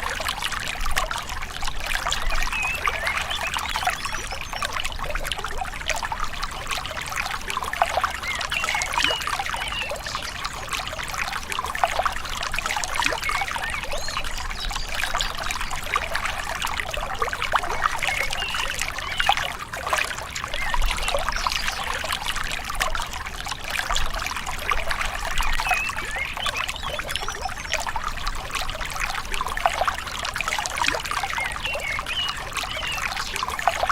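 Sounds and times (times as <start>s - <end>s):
river water babbling: 0.0s - 33.9s
small water splashes: 0.0s - 33.9s.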